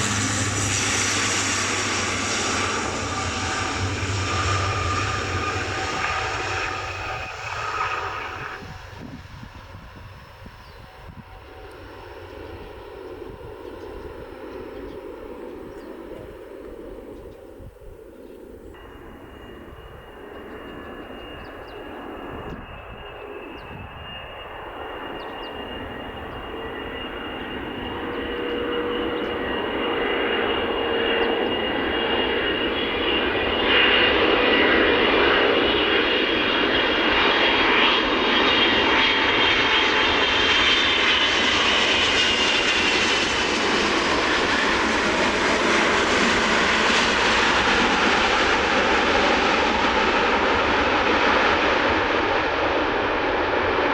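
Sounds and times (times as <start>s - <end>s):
jet airliner engines: 0.0s - 53.9s.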